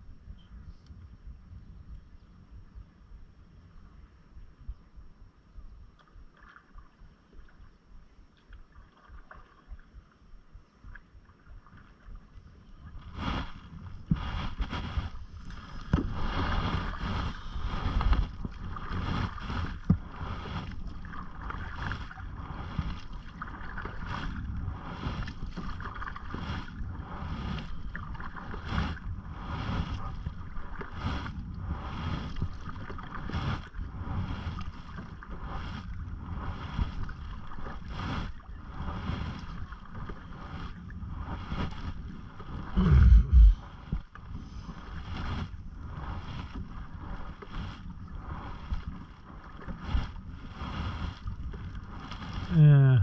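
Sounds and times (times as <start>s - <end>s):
wind rumble on microphone: 0.0s - 53.0s
water lapping at hull: 5.9s - 52.5s
paddle strokes in water: 5.9s - 52.6s.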